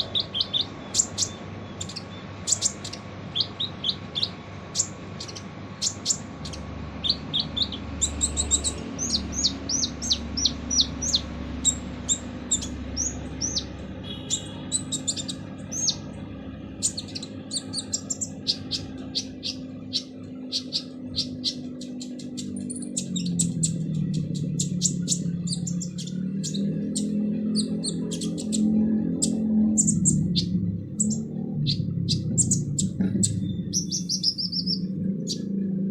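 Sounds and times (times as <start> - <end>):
sunbird chirping: 0.0 - 35.9.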